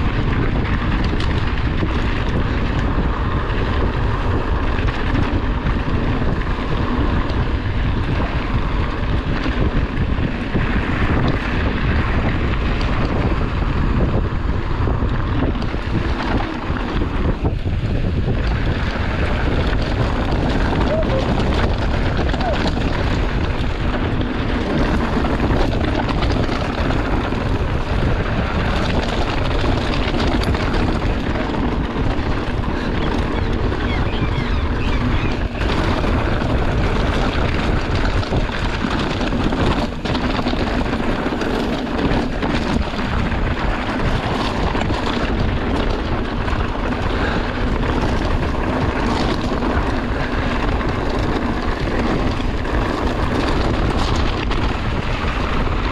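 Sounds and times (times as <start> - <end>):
bike tyres rolling on dirt: 0.0 - 55.9
wind rush on microphone: 0.0 - 55.9.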